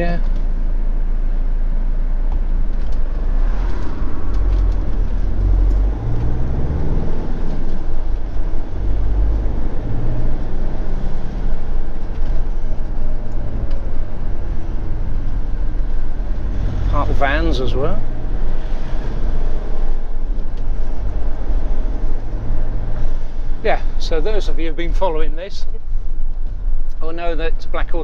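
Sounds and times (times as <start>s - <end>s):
motorhome engine and road noise: 0.0s - 28.0s.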